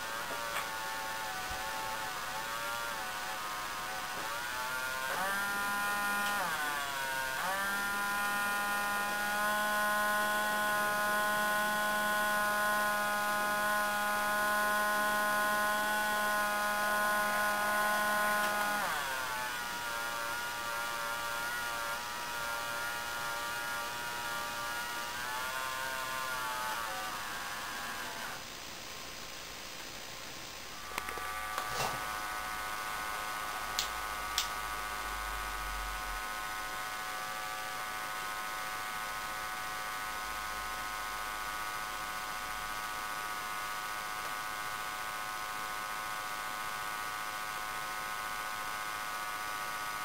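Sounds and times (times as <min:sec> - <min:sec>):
buzzing whining drone from speaker: 0:00.0 - 0:28.6, 0:30.8 - 0:50.0.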